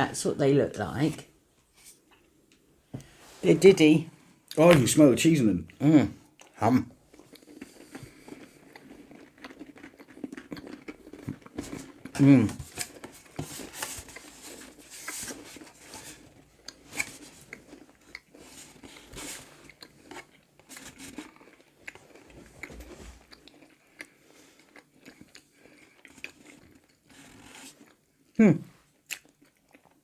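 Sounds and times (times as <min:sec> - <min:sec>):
people chewing crunchy biscuits: 0:05.7 - 0:30.0.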